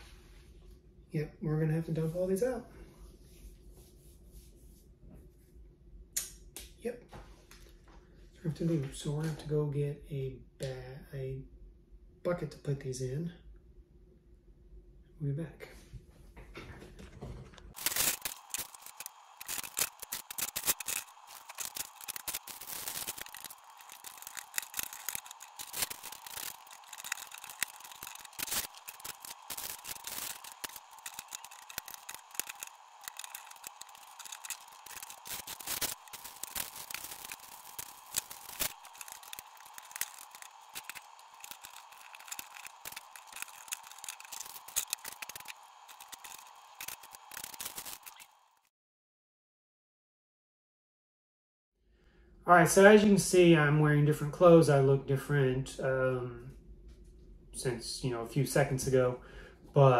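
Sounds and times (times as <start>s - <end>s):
faint steady hum: 0.0s - 48.6s.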